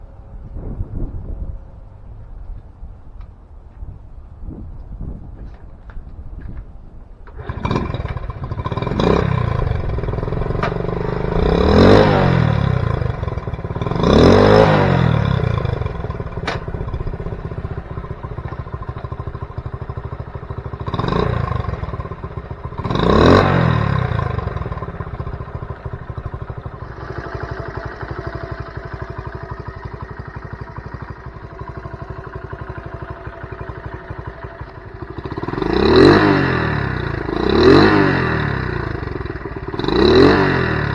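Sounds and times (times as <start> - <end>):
small motorcycle engine revving: 7.3 - 40.9.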